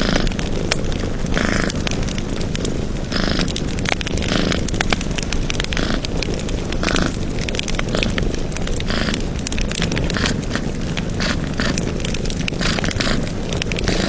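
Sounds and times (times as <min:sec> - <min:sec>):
fire hissing flares: 0:00.0 - 0:14.0
wood fire crackling: 0:00.0 - 0:14.0.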